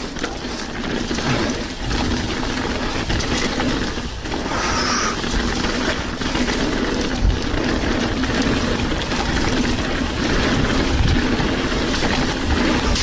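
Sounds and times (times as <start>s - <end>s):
bike rattling: 0.0s - 13.0s
tyre noise on trail: 0.0s - 13.0s.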